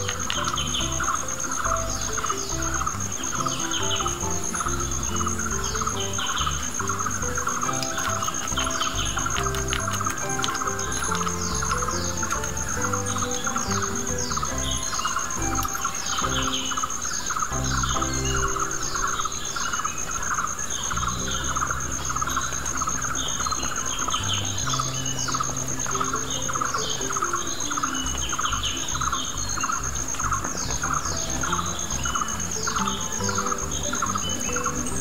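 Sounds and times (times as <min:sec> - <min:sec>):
birds chirping with falling calls: 0:00.0 - 0:35.0
low pulsing chirr: 0:00.0 - 0:35.0
soft background music: 0:00.0 - 0:35.0.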